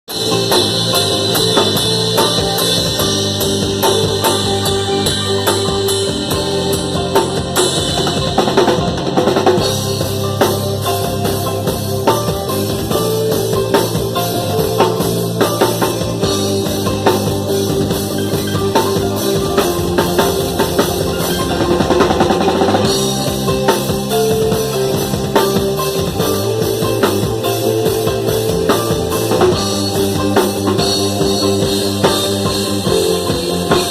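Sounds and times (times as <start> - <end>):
sustained bass: 0.0 - 33.9
drum kit beat: 0.1 - 33.9.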